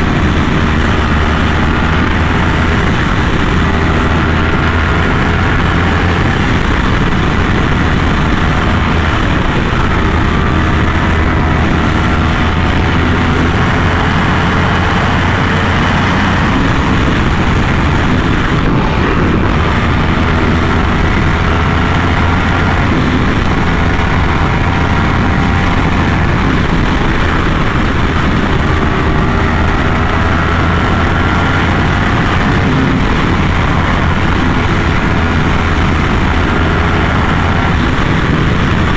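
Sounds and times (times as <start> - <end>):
motorcycle engine while riding: 0.0 - 38.9
wind noise: 0.0 - 38.9.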